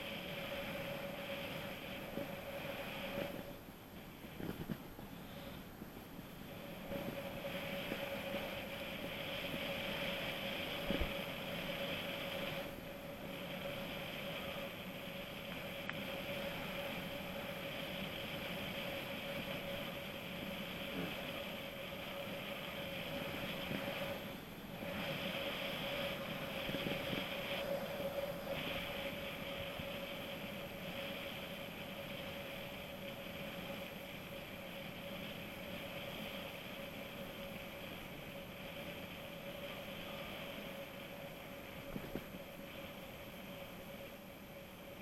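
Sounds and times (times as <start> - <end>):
mountain bike tyres rolling: 0.0 - 44.2.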